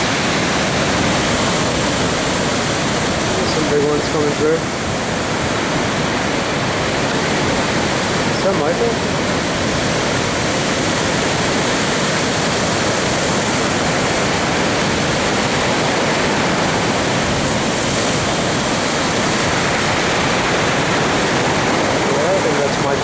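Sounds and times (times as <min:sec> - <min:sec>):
breaking ocean waves: 0:00.0 - 0:23.0.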